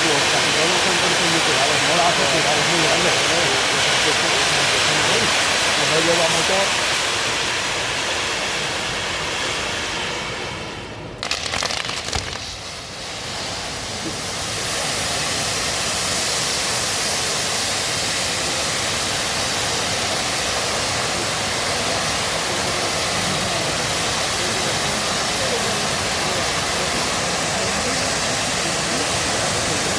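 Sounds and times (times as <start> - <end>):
fireworks crackling: 0.0 - 10.3, 11.2 - 29.9
fireworks hissing: 0.0 - 29.9.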